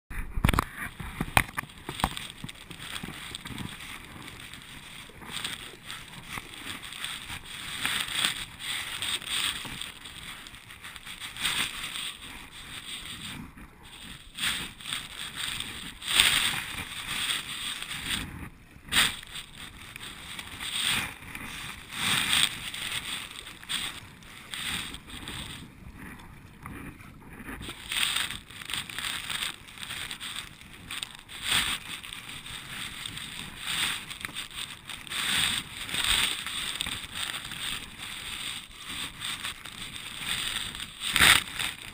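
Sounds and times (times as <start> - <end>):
water lapping against kayak hull: 0.6 - 41.9.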